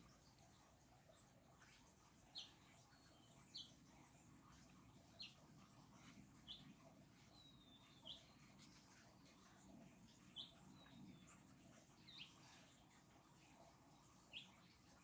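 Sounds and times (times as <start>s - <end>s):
bird chirping faintly: 0.0s - 15.0s.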